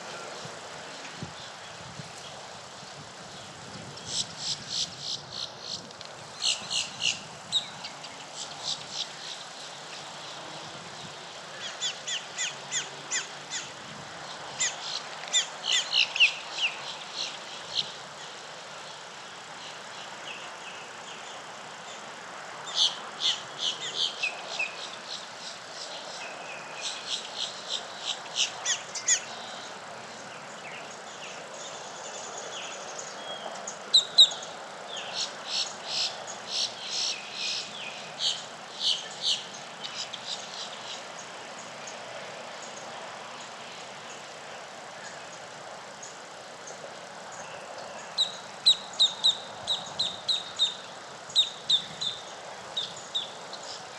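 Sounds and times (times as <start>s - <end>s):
faint background hiss: 0.0s - 53.9s
songbirds chirping: 0.0s - 53.9s.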